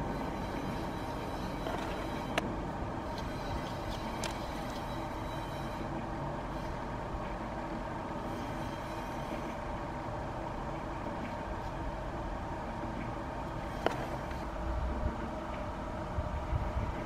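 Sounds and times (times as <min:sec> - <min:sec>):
faint constant tones: 0:00.0 - 0:17.0
steady background hum: 0:00.0 - 0:17.0.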